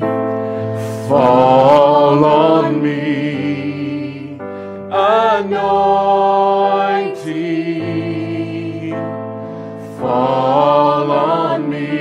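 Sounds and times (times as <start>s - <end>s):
slow gospel worship music: 0.0s - 12.0s.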